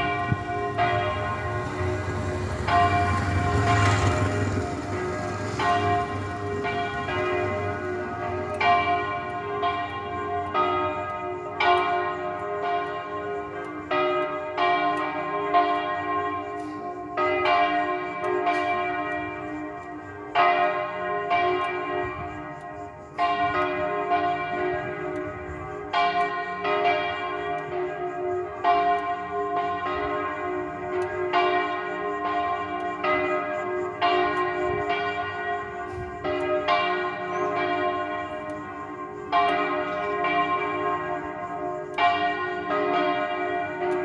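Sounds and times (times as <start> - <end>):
church bells pealing: 0.0 - 44.0.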